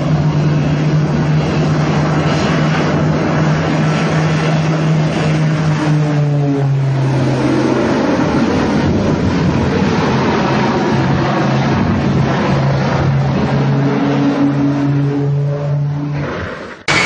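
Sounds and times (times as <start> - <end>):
engine running: 0.0 - 17.0
rushing noise: 0.0 - 17.0.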